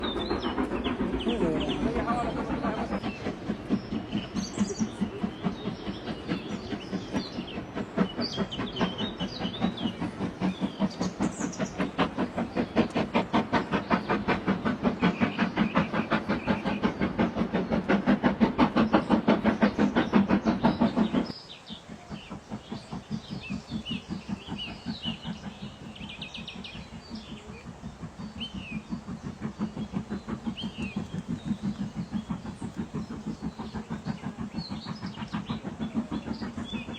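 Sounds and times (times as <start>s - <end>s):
birds chirping: 0.0s - 36.9s
fast regular pulsing: 0.0s - 36.9s.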